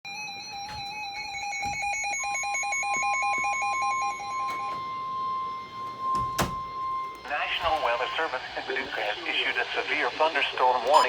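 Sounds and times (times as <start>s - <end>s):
steady warning alarm tone: 0.1s - 9.5s.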